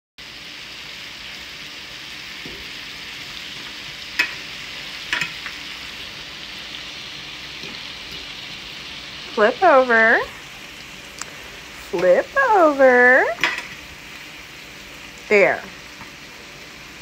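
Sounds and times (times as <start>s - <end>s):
food sizzling in a frying pan: 0.2s - 17.0s.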